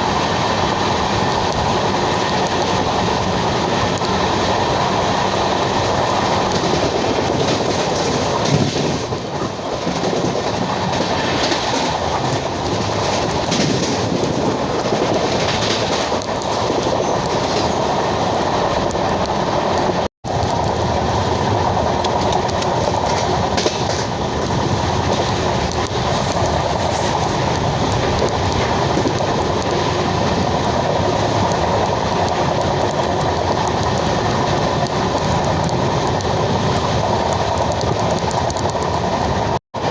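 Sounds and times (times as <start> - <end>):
train rumble and wheel clatter: 0.0 - 39.9.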